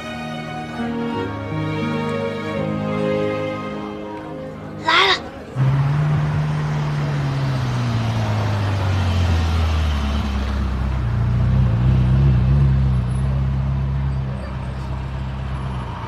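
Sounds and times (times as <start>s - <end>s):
road hum: 0.0s - 16.0s.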